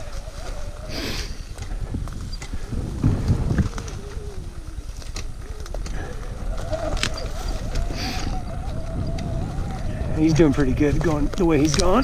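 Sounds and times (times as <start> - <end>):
electric motorbike motor whining: 0.0 - 12.0
wind noise on microphone: 0.0 - 12.0
bike knocking over rough ground: 1.4 - 12.0.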